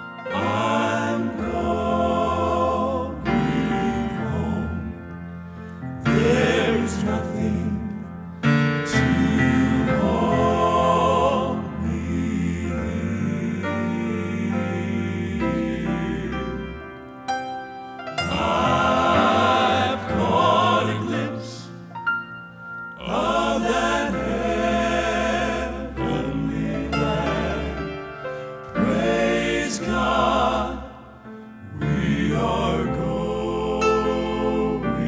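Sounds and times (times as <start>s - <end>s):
male quartet singing in harmony: 0.0s - 17.2s, 18.2s - 21.9s, 23.0s - 35.0s
piano accompaniment: 0.0s - 35.0s.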